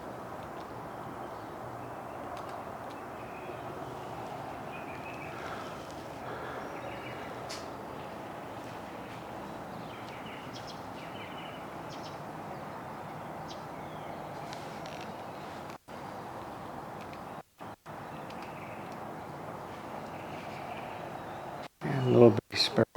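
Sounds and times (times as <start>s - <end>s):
small birds chirping: 0.0s - 22.8s
steady background noise: 0.0s - 22.9s.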